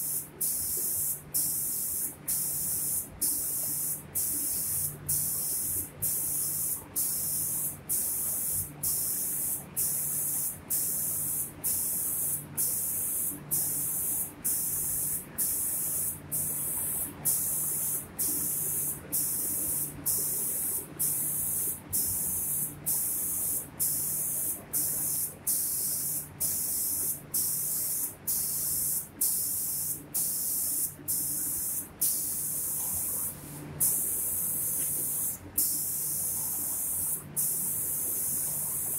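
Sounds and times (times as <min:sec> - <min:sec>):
spray gun hissing: 0:00.0 - 0:38.9.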